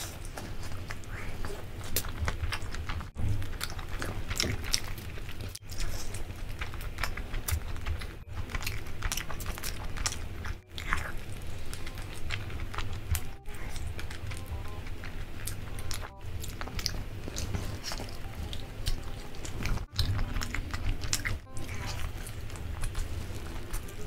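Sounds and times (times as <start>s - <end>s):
chewing and tearing meat: 0.0s - 24.0s.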